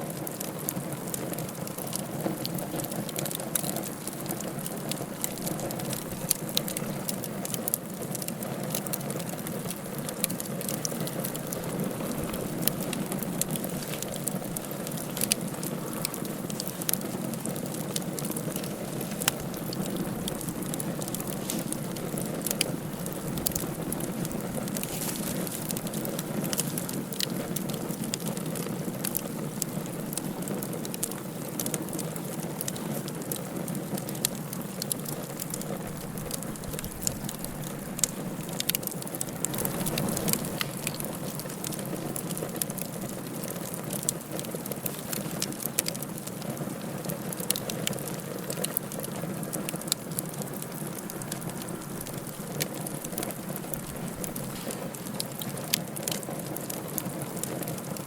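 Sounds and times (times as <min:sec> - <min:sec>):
wood fire crackling: 0:00.0 - 0:58.0
flames rushing: 0:00.2 - 0:46.4, 0:47.0 - 0:58.0.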